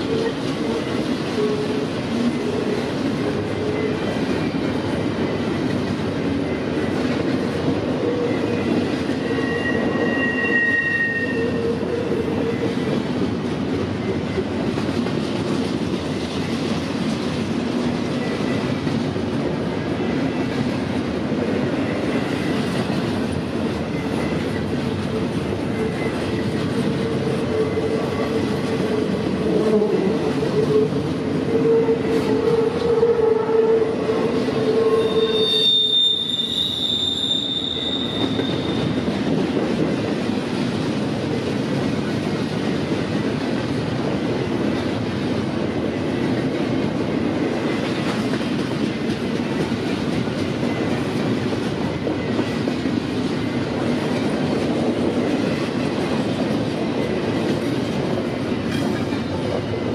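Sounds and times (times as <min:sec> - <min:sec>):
squealing train wheels: 0:00.0 - 0:39.8, 0:42.0 - 0:59.9
train wheels rumbling on rails: 0:00.0 - 0:59.9.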